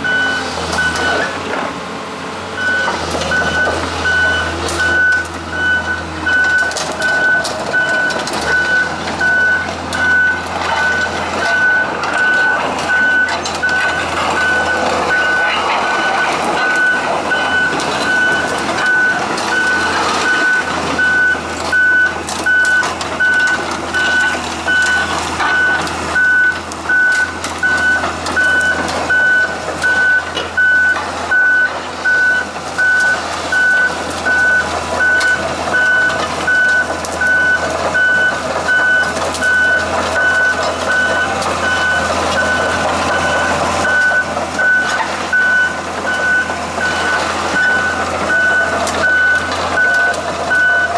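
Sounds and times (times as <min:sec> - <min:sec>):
excavator warning alarm beeping: 0:00.0 - 0:01.4, 0:02.5 - 0:50.9
diesel engine running: 0:00.0 - 0:50.9.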